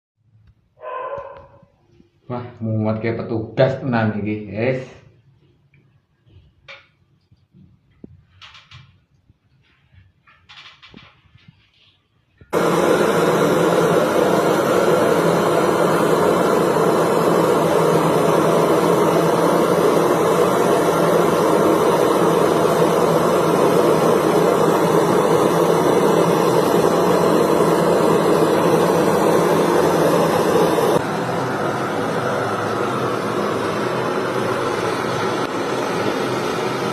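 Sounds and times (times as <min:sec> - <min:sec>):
gas torch flame roaring: 0:06.6 - 0:36.9.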